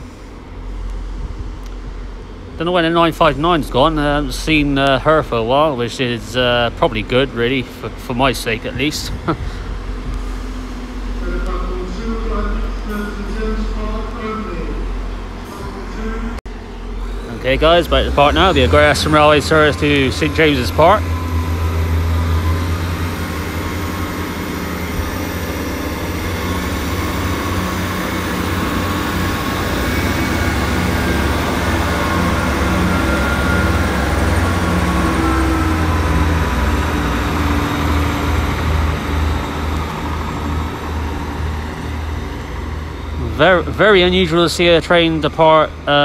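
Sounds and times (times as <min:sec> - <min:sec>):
diesel train engine rumbling: 0:00.0 - 0:46.0.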